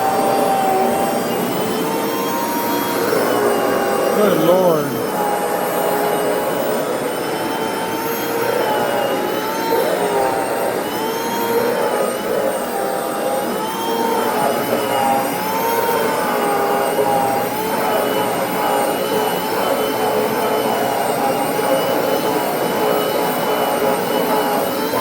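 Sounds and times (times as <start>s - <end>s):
carpet cleaner grinding whine: 0.0s - 25.0s.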